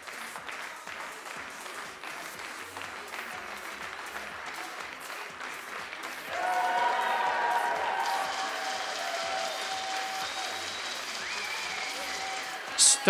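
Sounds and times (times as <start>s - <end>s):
spectators applauding: 0.0s - 13.0s.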